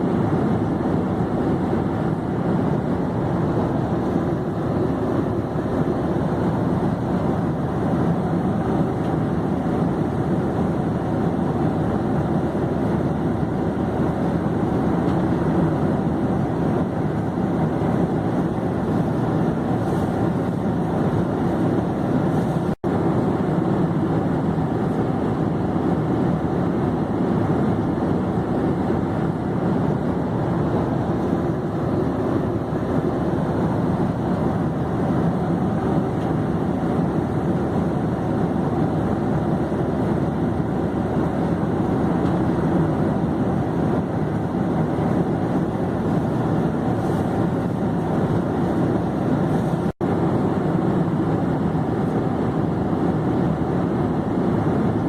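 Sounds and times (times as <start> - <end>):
airplane droning in flight: 0.0 - 55.0.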